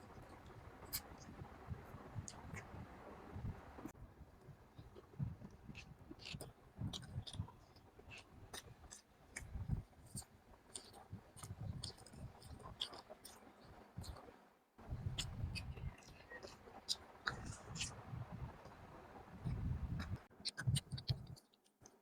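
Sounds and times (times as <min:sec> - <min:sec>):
mouth chewing with wet smacks: 0:00.8 - 0:03.4, 0:04.7 - 0:14.3, 0:14.9 - 0:18.8, 0:19.4 - 0:21.8.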